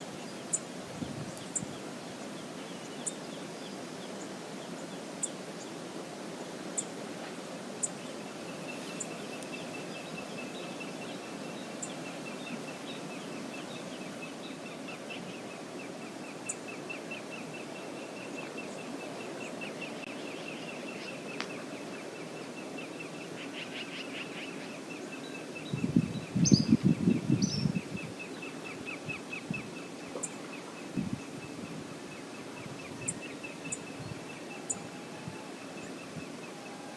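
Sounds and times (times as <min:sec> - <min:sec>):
river water rushing: 0:00.0 - 0:25.8, 0:28.1 - 0:36.9.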